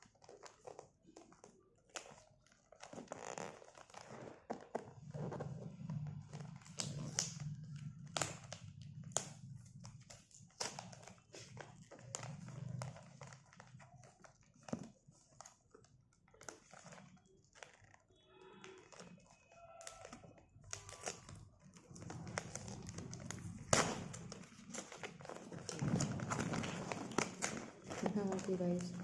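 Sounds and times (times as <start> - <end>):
packaging crinkling and rustling: 0.0 - 29.0.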